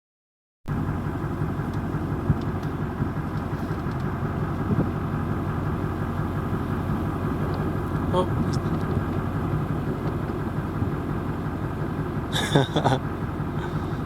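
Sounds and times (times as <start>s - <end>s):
vehicle engine idling: 0.7s - 14.0s.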